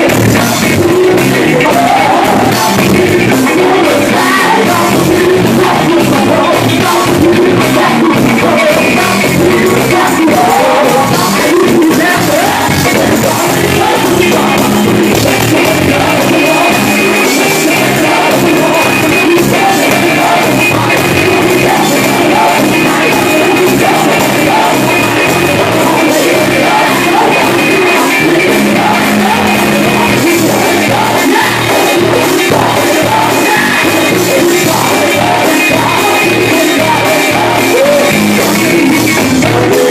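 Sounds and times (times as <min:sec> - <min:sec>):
drums: 0:00.0 - 0:39.9
electric guitar: 0:00.0 - 0:39.9
man singing into a microphone: 0:00.0 - 0:39.9.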